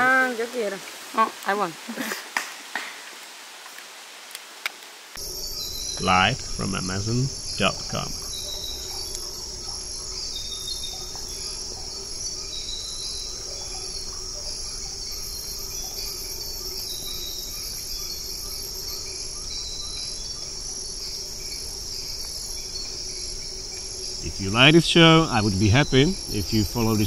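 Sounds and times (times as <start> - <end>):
insects shrilling: 4.2 - 27.0
pulsing insect trill: 5.2 - 27.0.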